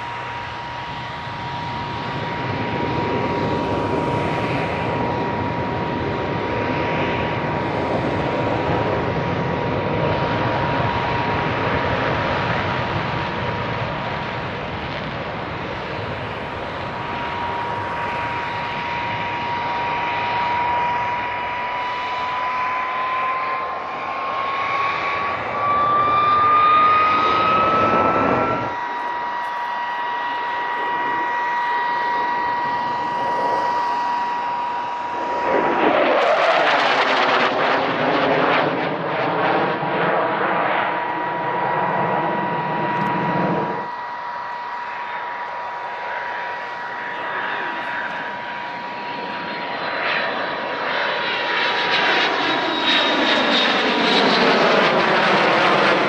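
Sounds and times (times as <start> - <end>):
jet engine roar with whine: 0.0 - 56.0.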